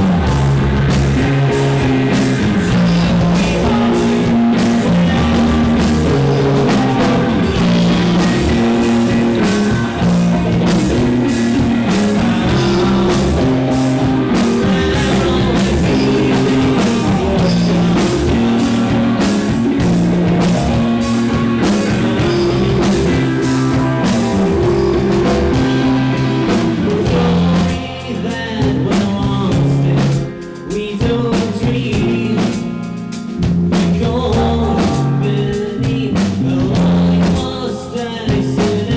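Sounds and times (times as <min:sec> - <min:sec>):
man singing: 0:00.0 - 0:33.0, 0:33.7 - 0:38.9
bass guitar: 0:00.0 - 0:38.9
distorted electric guitar: 0:00.0 - 0:38.9
drum kit: 0:00.0 - 0:38.9.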